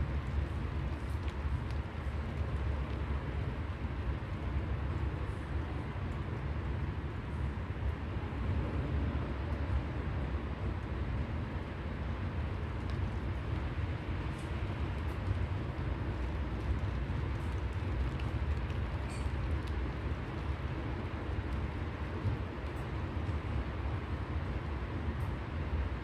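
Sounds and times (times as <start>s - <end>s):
low city rumble: 0.0s - 26.0s.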